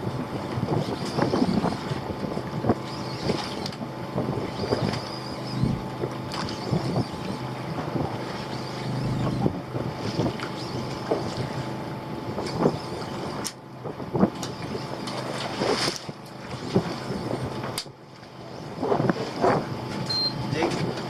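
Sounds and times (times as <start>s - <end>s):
boat engine running: 0.0s - 21.0s
wind on microphone: 0.0s - 21.0s.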